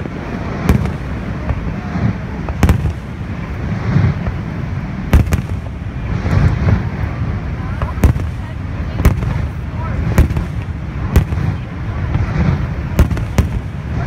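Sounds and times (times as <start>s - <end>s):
firework shells bursting with bangs: 0.0s - 14.0s
steady background rumble: 0.0s - 14.0s.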